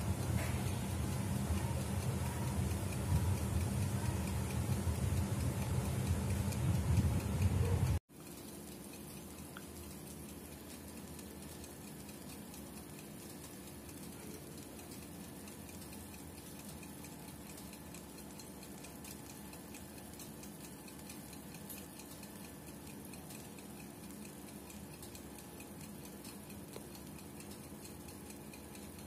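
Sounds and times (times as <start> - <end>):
faint regular ticking: 0.0 - 29.0.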